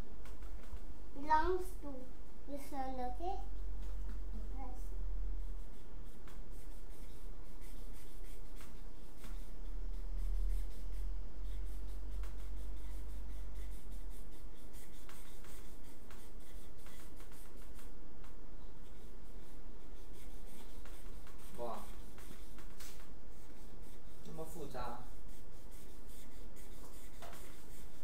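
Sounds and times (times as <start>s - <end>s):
steady low hum: 0.0s - 28.0s
marker scratching on whiteboard: 0.2s - 1.8s, 2.6s - 28.0s.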